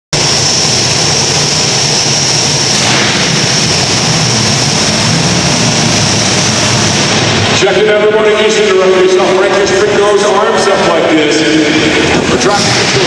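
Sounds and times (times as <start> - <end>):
large vehicle engine droning: 0.2 - 13.0.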